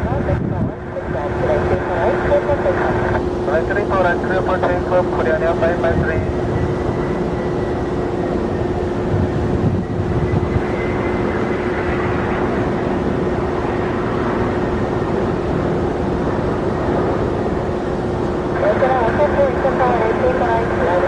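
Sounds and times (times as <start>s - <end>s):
high engine whine: 0.0s - 21.0s
jet engines running: 0.0s - 21.0s.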